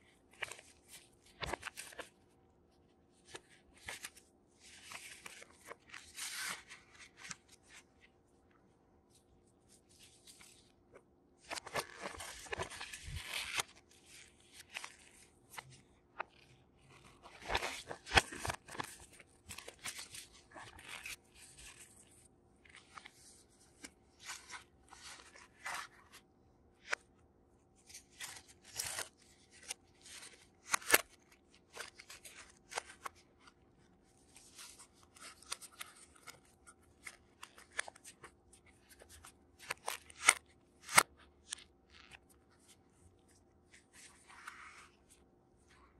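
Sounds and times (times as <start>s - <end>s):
paper rustling and crinkling: 0.3s - 2.3s, 3.2s - 8.1s, 9.7s - 26.2s, 27.8s - 45.9s.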